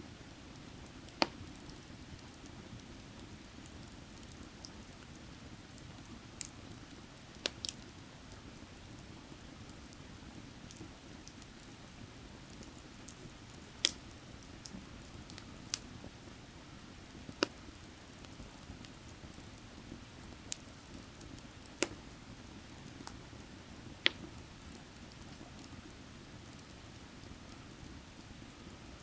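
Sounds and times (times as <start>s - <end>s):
firewood crackling: 0.4s - 29.0s.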